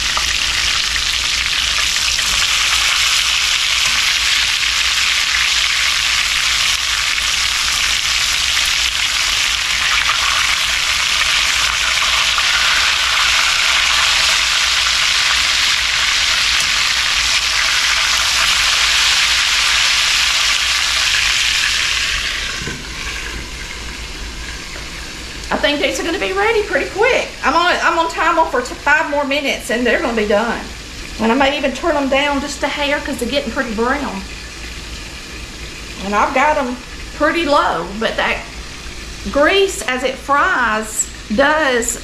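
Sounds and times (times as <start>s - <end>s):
chicken frying in skillet: 0.0s - 42.0s.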